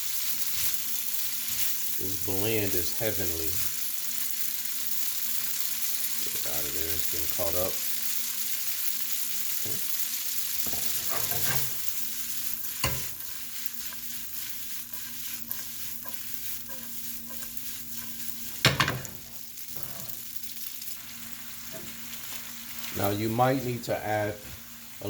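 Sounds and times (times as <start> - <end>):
noodles sizzling in a pan: 0.0 - 25.0.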